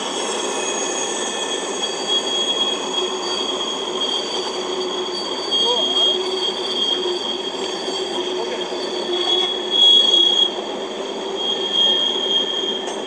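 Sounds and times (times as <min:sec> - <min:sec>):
rumble of rolling train cars: 0:00.0 - 0:13.0
train wheels squealing on rails: 0:00.0 - 0:13.0.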